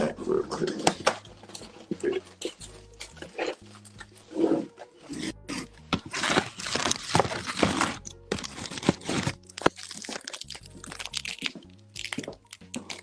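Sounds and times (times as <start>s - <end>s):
background music with bass: 0.0s - 13.0s
snack crinkling and crunching: 0.0s - 13.0s.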